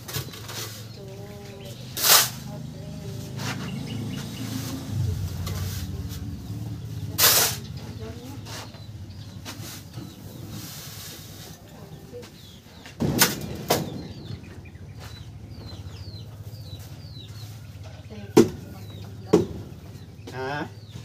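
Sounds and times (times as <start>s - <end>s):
small bird chirping: 0.2s - 21.0s.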